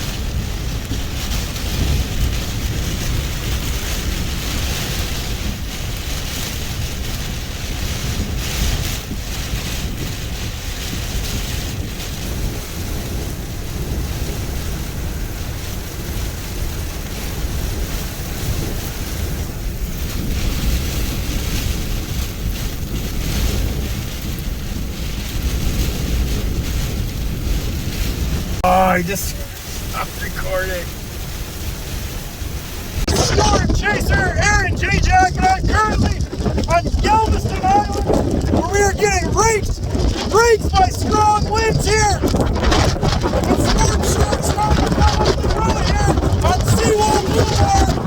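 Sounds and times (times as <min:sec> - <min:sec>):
ocean surf: 0:00.0 - 0:48.0
wind buffeting microphone: 0:00.0 - 0:48.0.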